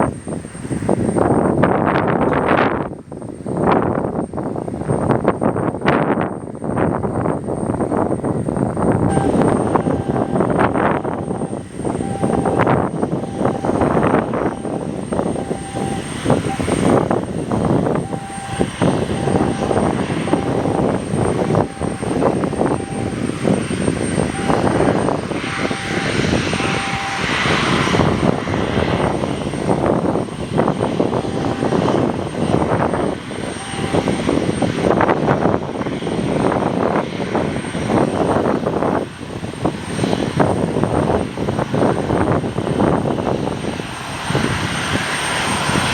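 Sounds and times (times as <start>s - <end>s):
aircraft engine running: 0.0s - 45.9s
wind buffeting microphone: 0.0s - 45.9s.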